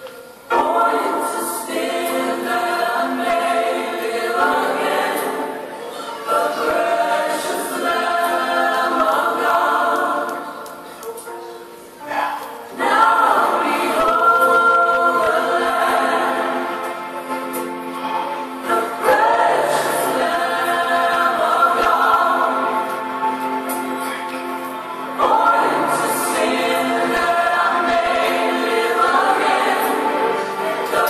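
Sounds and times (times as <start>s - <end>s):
backing music: 0.0s - 31.0s
choir singing: 0.3s - 11.8s, 12.6s - 31.0s.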